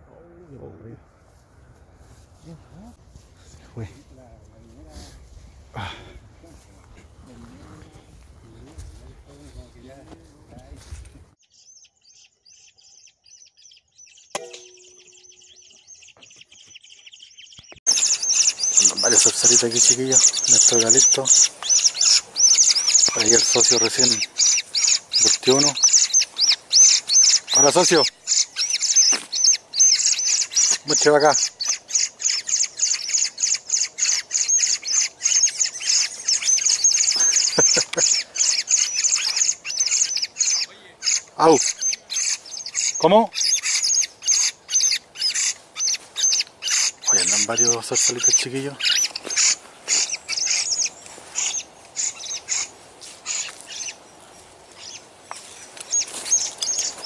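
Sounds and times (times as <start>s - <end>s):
small birds chirping: 1.6s - 57.0s.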